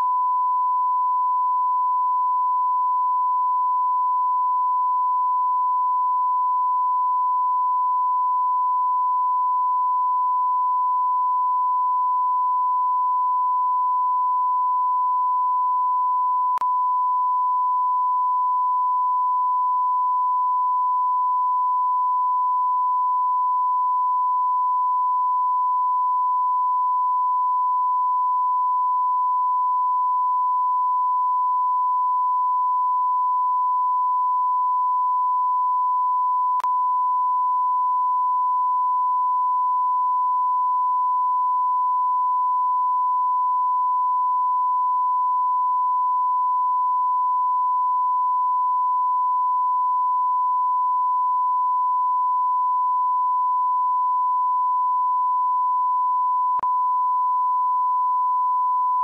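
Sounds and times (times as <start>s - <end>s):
sine-wave test tone: 0.0s - 59.0s.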